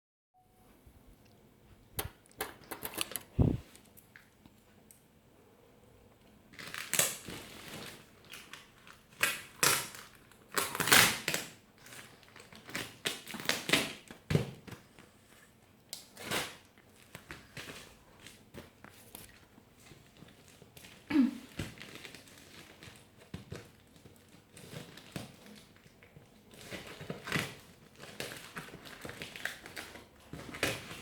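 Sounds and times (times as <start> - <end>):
packaging crinkling and rustling: 2.0 - 4.1, 6.5 - 31.0.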